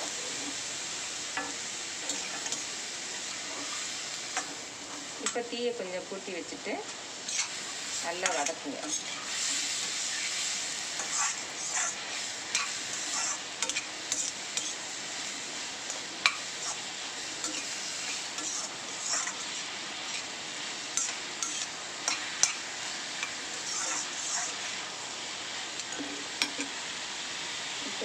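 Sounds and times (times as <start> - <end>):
frying oil sizzling: 0.0 - 28.0.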